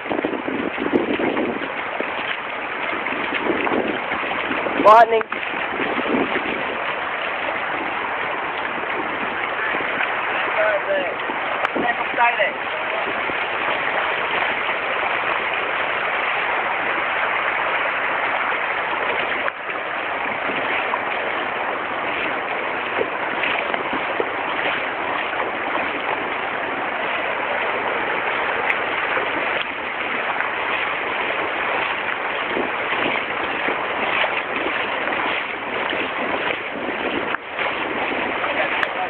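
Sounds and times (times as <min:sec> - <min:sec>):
floodwater rushing: 0:00.0 - 0:39.0.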